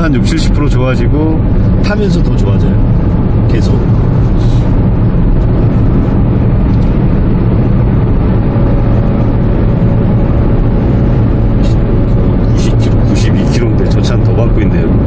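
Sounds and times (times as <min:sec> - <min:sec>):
car engine and road rumble: 0:00.0 - 0:15.0
faint steady whine: 0:00.0 - 0:15.0.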